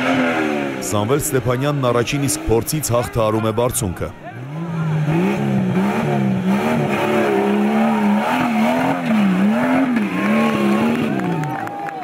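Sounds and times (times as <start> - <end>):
off-road vehicle engine revving: 0.0 - 3.4, 4.2 - 12.0.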